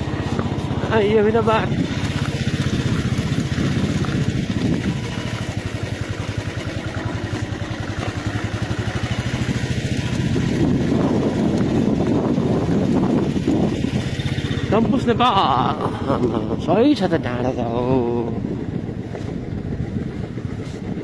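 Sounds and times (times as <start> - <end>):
driving on rough dirt road: 0.0 - 21.0
vehicle engine running: 0.0 - 21.0.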